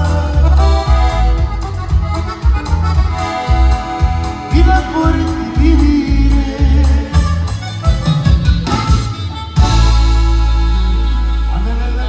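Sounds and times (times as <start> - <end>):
drum kit: 0.0 - 11.7
accordion melody: 0.0 - 12.0
electric bass line: 0.0 - 12.0.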